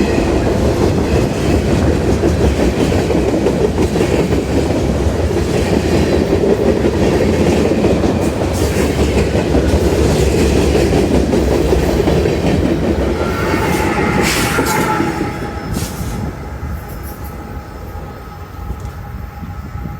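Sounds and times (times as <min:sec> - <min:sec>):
freight train wheels rumbling: 0:00.0 - 0:19.9.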